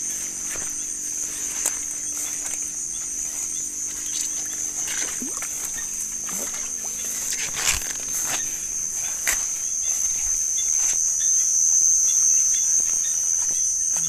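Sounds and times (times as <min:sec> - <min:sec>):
footsteps through grass: 0:00.0 - 0:14.0
night insects chirring: 0:00.0 - 0:14.0.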